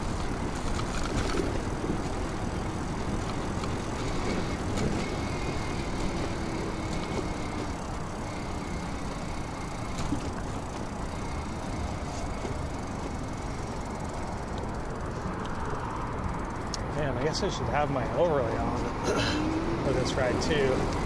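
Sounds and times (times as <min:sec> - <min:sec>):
wind buffeting microphone: 0:00.0 - 0:17.4
bike tyre noise: 0:00.0 - 0:21.0
faint thin whine: 0:00.0 - 0:21.0.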